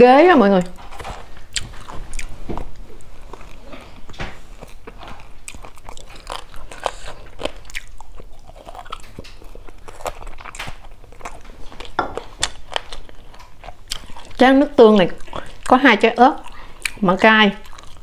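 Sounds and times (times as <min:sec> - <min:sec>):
crunchy chewing and biting: 0:00.6 - 0:18.0.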